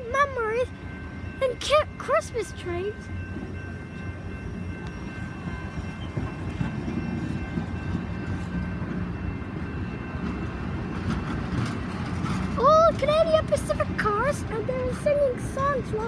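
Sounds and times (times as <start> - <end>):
railcars rolling past: 0.0 - 16.0.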